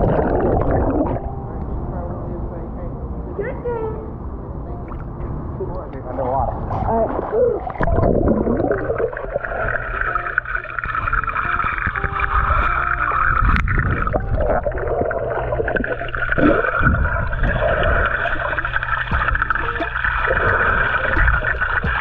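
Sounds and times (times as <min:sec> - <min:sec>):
underwater rumble and gurgling: 0:00.0 - 0:02.4, 0:04.8 - 0:22.0.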